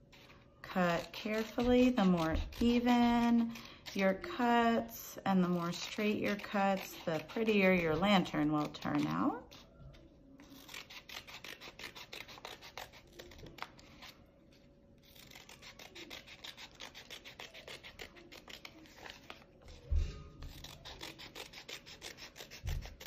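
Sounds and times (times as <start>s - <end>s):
scissors cutting paper: 0.0s - 23.0s.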